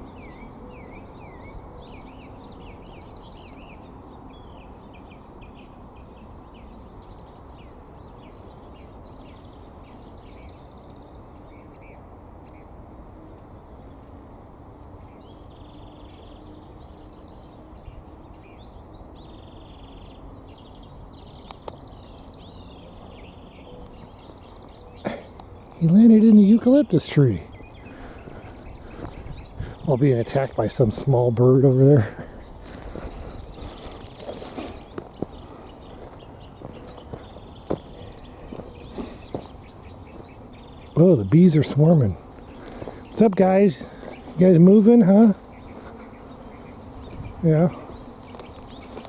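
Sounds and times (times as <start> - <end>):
outdoor background hiss: 0.0 - 49.0
small birds chirping: 0.0 - 49.0.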